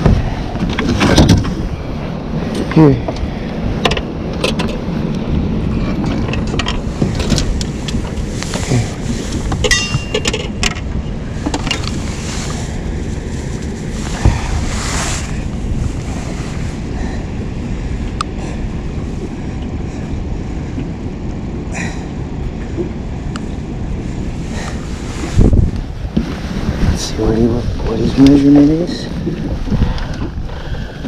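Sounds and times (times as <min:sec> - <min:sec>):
water washing against boat: 0:00.0 - 0:31.0
wind rumble on microphone: 0:00.0 - 0:31.0.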